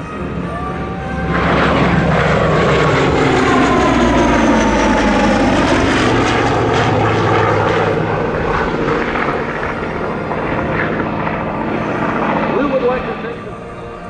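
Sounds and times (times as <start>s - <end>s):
propeller plane passing by: 0.0s - 14.0s.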